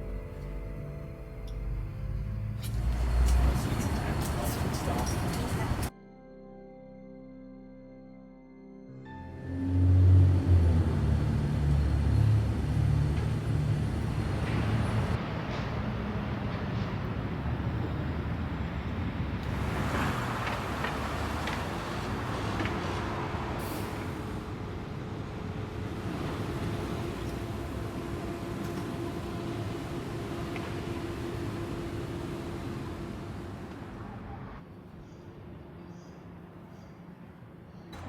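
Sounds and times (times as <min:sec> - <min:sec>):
heavy vehicle engine rumbling: 0:00.0 - 0:05.9, 0:09.5 - 0:34.6
passing traffic: 0:00.0 - 0:05.9, 0:09.3 - 0:38.0.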